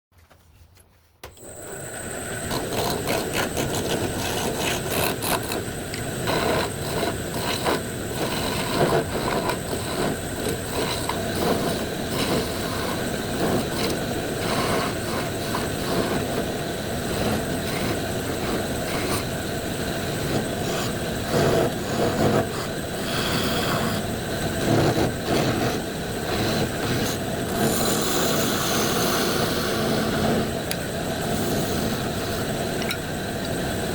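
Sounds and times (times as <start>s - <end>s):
lathe motor hum: 1.3s - 33.9s
tool scraping spinning wood: 1.4s - 33.9s.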